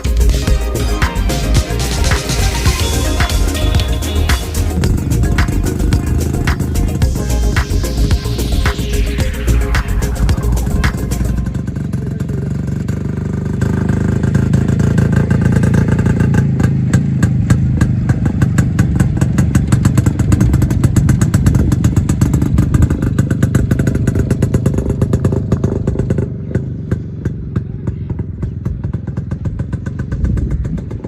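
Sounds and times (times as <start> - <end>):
two-stroke motorcycle engine running: 0.0 - 31.0.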